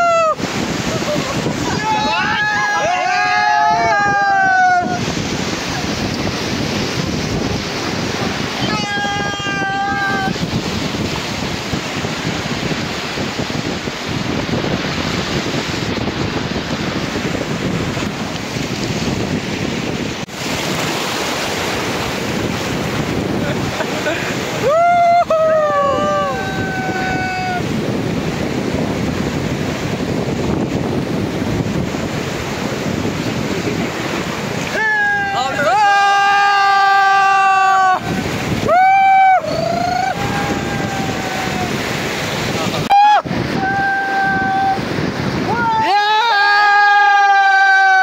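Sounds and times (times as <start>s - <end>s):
rushing river water: 0.0s - 48.0s
wind buffeting microphone: 0.0s - 48.0s.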